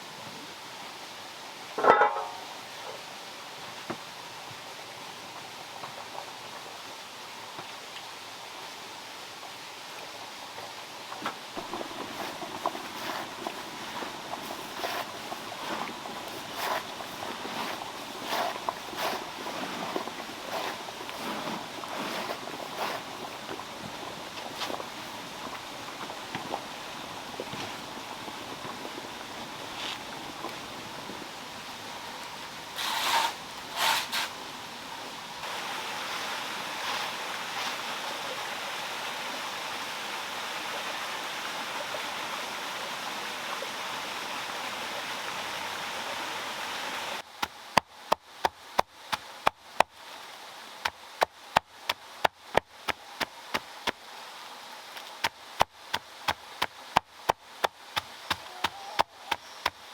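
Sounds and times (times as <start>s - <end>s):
water running over waterfall: 0.0s - 59.9s
water splashes: 10.1s - 59.9s.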